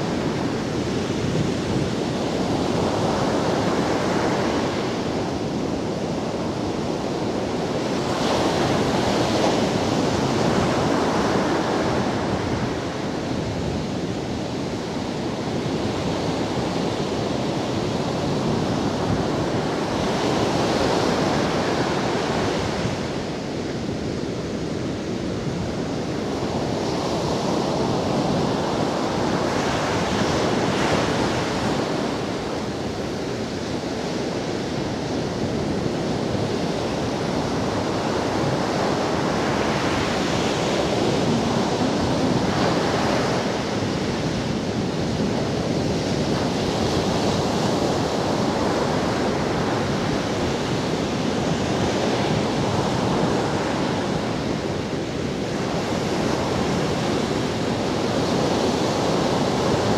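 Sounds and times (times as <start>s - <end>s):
ocean surf breaking on sand: 0.0s - 59.9s
wind on microphone: 0.0s - 59.9s.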